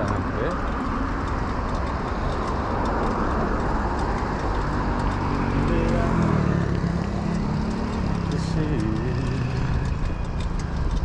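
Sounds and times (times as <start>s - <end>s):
motor vehicles passing: 0.0s - 11.0s
wind and road noise: 0.0s - 11.0s.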